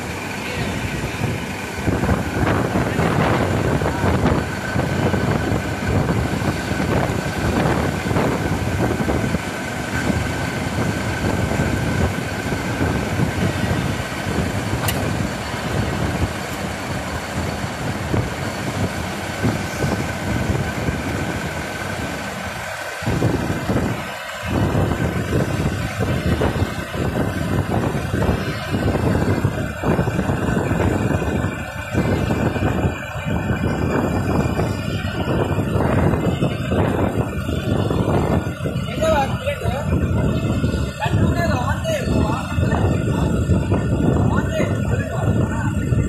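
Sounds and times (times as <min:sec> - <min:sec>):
drilling machine drone: 0:00.0 - 0:46.0.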